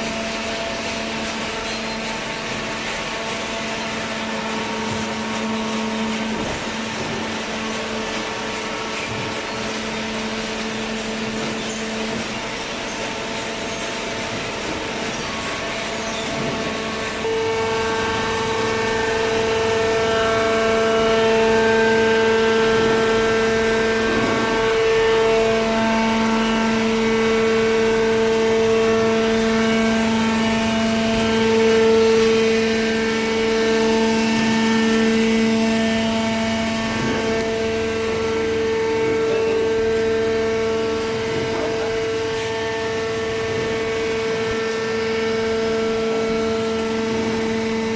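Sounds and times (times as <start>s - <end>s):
hydraulic power unit whining: 0.0s - 47.9s.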